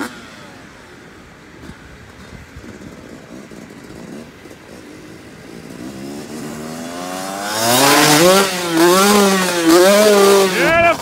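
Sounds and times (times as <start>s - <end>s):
motorbike engine revving: 0.0s - 11.0s.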